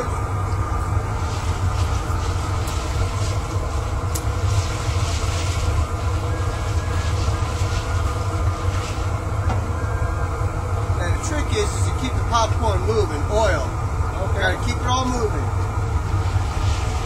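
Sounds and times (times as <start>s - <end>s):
gas burner rumble: 0.0s - 17.0s
steady hiss: 0.0s - 17.0s.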